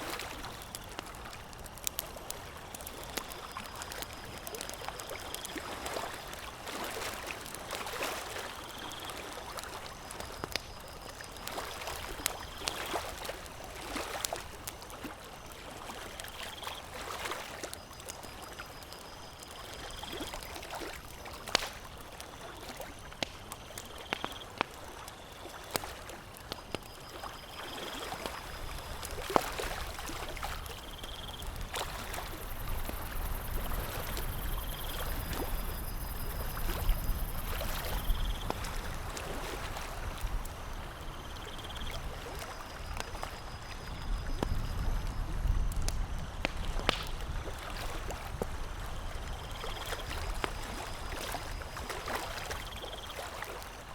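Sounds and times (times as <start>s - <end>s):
water lapping and trickling: 0.0s - 53.9s
campfire crackling and popping: 0.1s - 53.9s.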